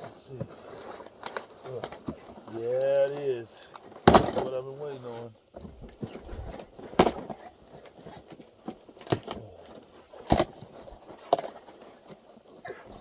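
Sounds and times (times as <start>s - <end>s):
crackling and rustling: 0.0s - 13.0s.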